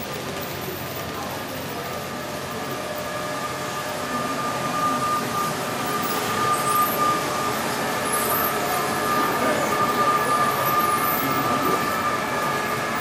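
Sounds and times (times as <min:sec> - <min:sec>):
model electric train rumbling: 0:00.0 - 0:13.0
thin steady whine: 0:00.0 - 0:13.0.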